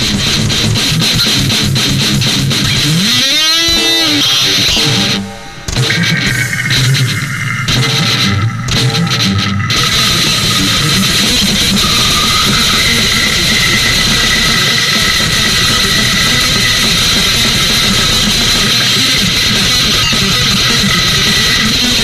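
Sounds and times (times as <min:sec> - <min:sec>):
distorted metal guitars: 0:00.0 - 0:22.0
fast dense drumming: 0:00.0 - 0:22.0
held high guitar note: 0:00.0 - 0:22.0.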